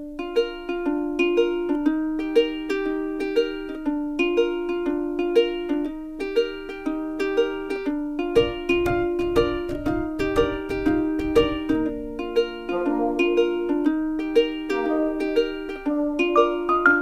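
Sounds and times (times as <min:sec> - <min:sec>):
plucked-string instrumental tune: 0:00.0 - 0:17.0.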